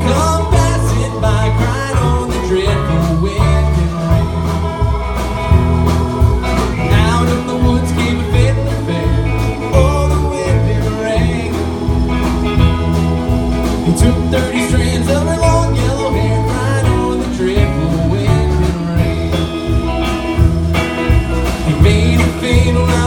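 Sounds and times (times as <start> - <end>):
lead guitar: 0.0 - 23.0
steady percussion: 0.0 - 23.0
walking bass: 0.0 - 23.0.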